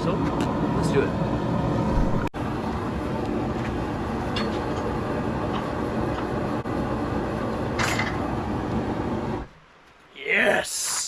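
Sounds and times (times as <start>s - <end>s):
steady rumbling: 0.0s - 9.5s.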